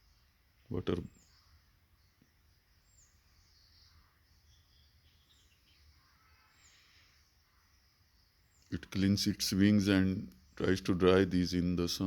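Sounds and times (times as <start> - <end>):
faint high-pitched bird chirps: 0.0 - 12.0.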